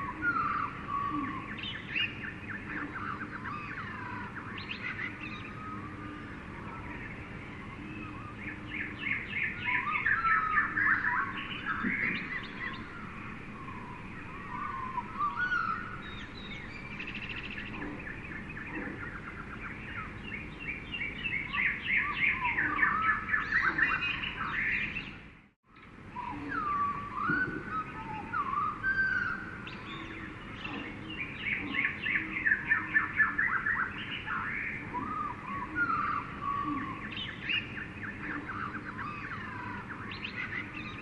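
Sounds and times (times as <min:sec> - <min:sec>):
birds chirping and trilling: 0:00.0 - 0:41.0
steady background hiss: 0:00.0 - 0:41.0.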